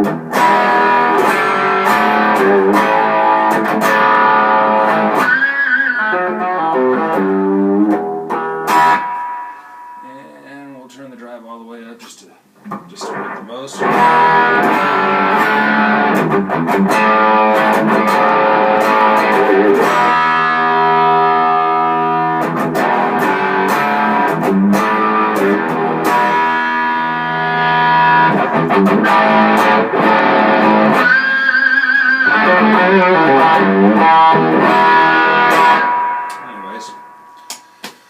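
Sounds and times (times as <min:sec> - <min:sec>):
distorted electric guitar: 0:00.0 - 0:10.4, 0:12.6 - 0:37.8.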